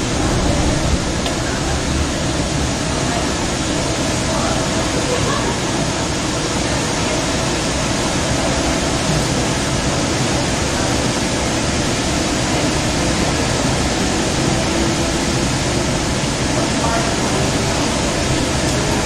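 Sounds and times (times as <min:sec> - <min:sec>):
train car rushing rumble: 0:00.0 - 0:19.0.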